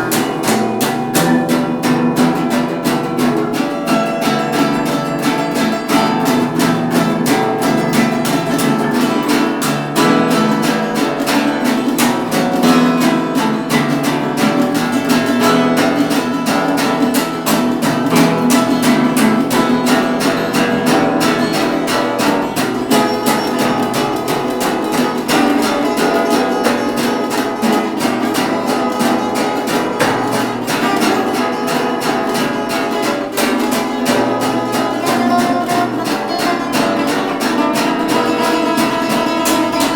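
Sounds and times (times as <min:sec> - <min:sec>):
acoustic blues guitar music: 0:00.0 - 0:39.9.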